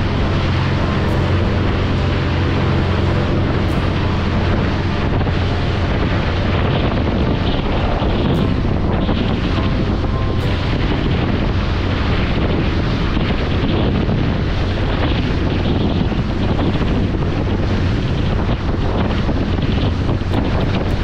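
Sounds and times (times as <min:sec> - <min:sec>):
boat engine drone: 0:00.0 - 0:21.0
water rushing from wake: 0:00.0 - 0:21.0
wind buffeting microphone: 0:00.0 - 0:21.0.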